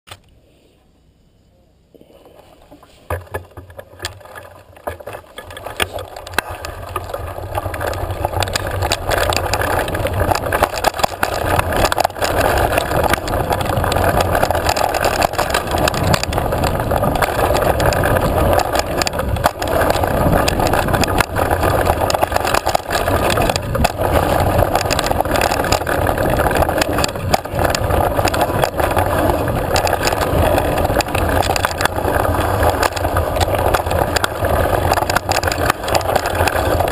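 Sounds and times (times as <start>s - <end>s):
tyres on dirt and gravel: 1.9s - 36.9s
bike knocks and rattles: 3.0s - 36.9s
wind rushing over microphone: 6.4s - 36.9s.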